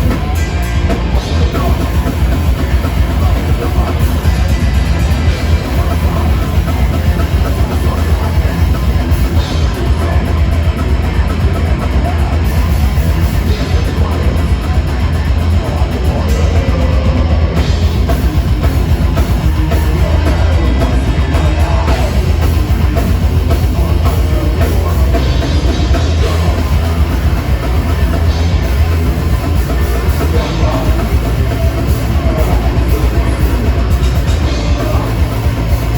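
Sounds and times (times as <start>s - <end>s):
rock band playing live: 0.0s - 35.9s.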